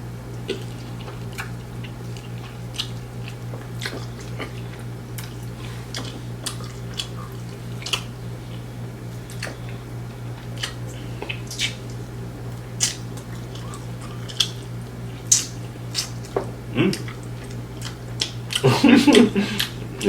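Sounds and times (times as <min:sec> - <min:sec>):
steady low hum: 0:00.0 - 0:20.0
lip smacks: 0:00.3 - 0:20.0
wet chewing: 0:00.3 - 0:20.0.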